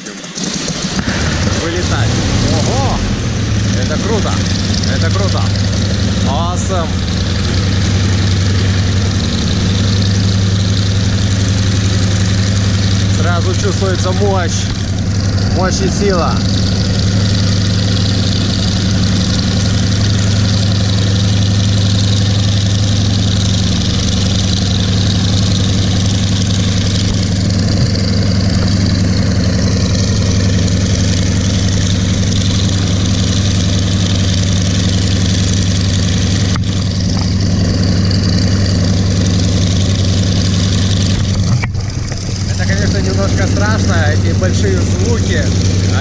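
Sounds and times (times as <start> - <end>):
propeller aircraft engine: 0.0 - 46.0.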